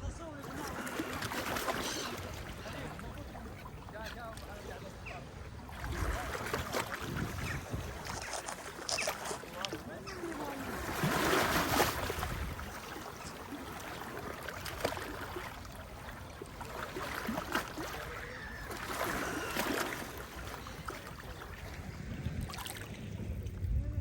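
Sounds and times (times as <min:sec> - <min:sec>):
sea water sloshing: 0:00.0 - 0:23.8
waves surging: 0:00.0 - 0:24.0.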